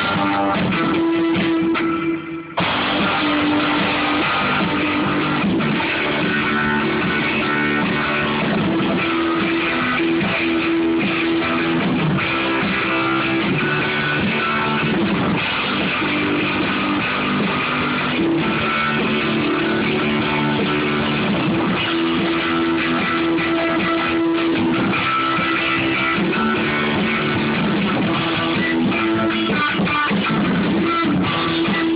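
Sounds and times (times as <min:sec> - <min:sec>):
rock band playing: 0:00.0 - 0:31.9
strummed guitars: 0:00.0 - 0:31.9.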